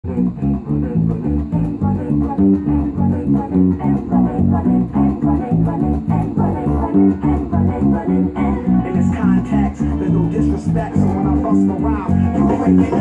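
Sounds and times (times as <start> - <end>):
electric bass guitar: 0.0 - 13.0
backing track with drums: 0.1 - 13.0.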